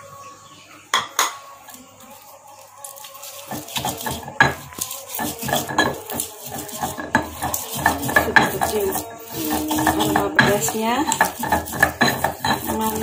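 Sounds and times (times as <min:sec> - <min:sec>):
stone pestle grinding in mortar: 0:01.7 - 0:13.0.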